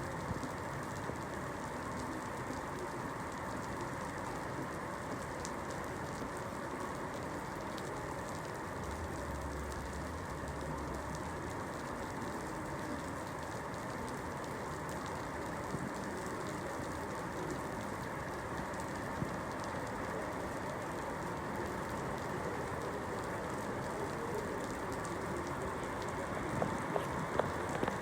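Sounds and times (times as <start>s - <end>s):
steady rain patter: 0.0s - 28.0s.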